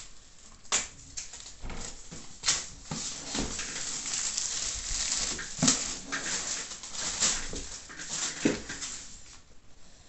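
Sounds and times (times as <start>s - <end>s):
plastic shrink wrap crinkling: 0.0s - 9.5s.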